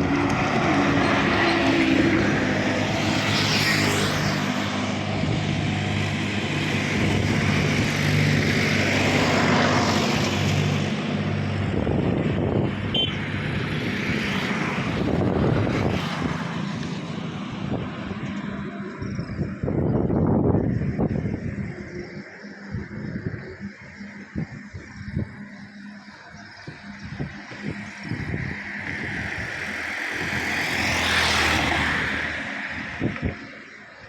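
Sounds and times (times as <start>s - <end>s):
engine droning: 0.0s - 34.0s.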